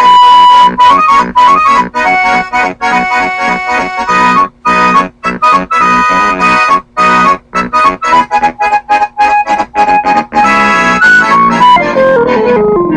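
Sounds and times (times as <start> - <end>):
accordion-like choppy chords: 0.0 - 12.9.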